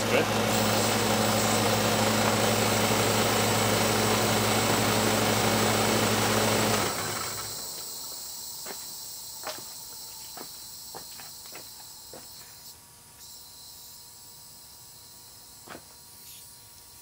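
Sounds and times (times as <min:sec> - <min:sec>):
compressor humming: 0:00.0 - 0:17.0.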